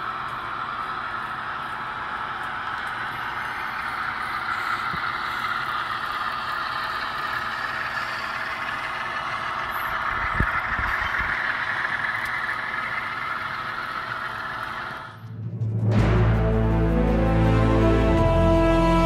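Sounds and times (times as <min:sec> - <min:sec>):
diesel locomotive sound from small speaker: 0:00.0 - 0:19.0.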